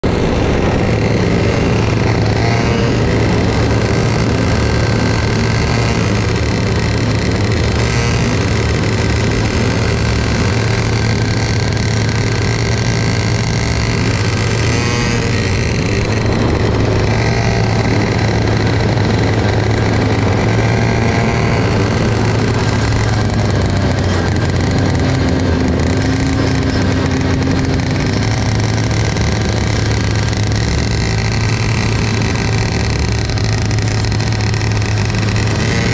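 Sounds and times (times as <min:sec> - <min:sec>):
kart engine running: 0:00.0 - 0:35.9.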